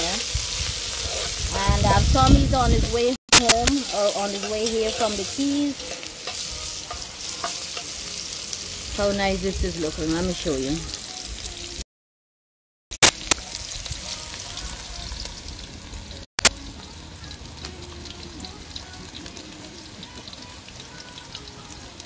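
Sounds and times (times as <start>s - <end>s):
onions sizzling in hot oil: 0.0s - 11.8s, 13.1s - 22.0s.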